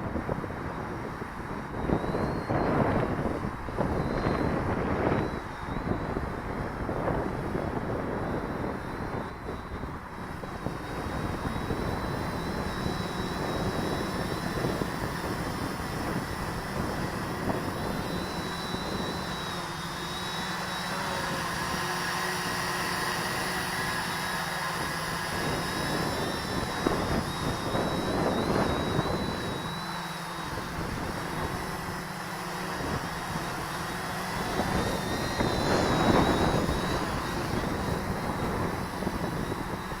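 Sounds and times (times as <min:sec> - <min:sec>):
quadcopter propellers whining: 0:00.0 - 0:40.0
wind on microphone: 0:00.0 - 0:40.0.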